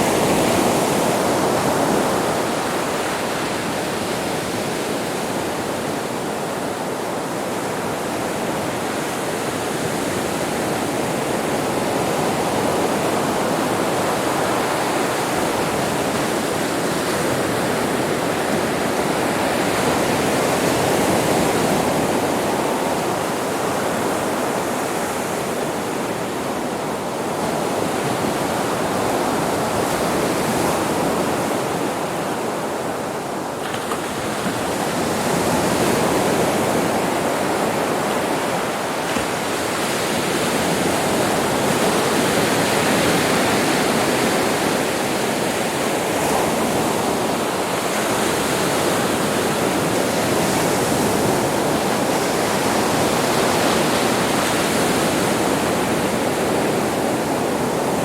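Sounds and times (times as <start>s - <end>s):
sea waves washing on beach: 0.0s - 58.0s.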